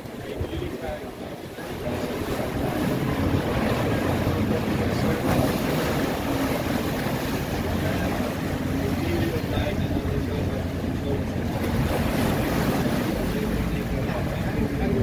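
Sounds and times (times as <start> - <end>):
propellers churning water: 0.0 - 15.0
wind on microphone: 0.0 - 15.0.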